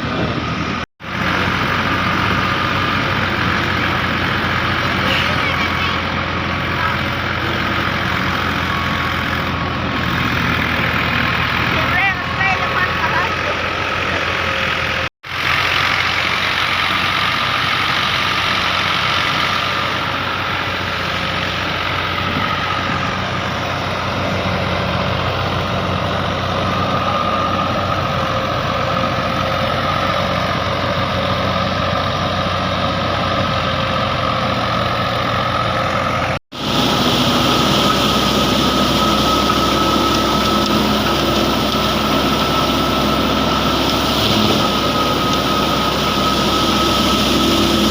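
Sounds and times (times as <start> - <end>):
harvest machine engine running: 0.0 - 47.9.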